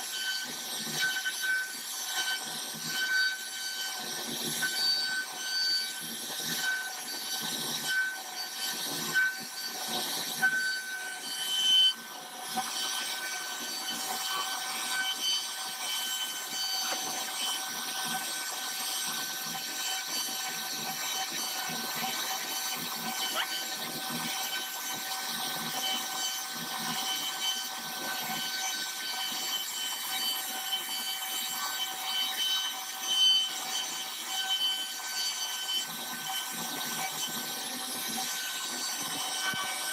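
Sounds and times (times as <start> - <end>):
bit cutting wood: 0.0 - 39.9
router spindle whining: 0.0 - 39.9.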